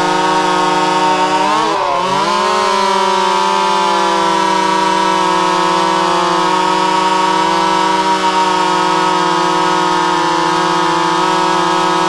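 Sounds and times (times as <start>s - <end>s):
chainsaw cutting log: 0.0s - 12.0s.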